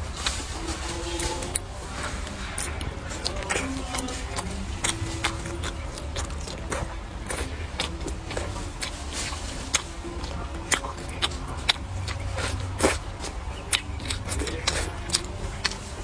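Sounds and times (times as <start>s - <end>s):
chewing and mouth noises: 0.0s - 16.0s
steady low hum: 0.0s - 16.0s.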